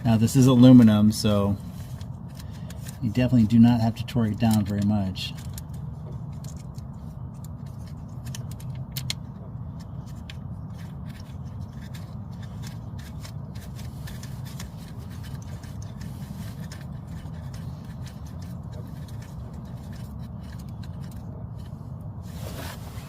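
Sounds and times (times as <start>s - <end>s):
ratchet clicking and scraping: 0.0s - 21.8s
steady low hum: 0.0s - 23.0s.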